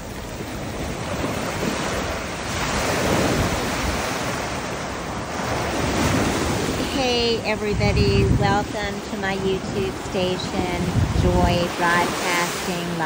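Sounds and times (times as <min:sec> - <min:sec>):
waves breaking on a beach: 0:00.0 - 0:13.0.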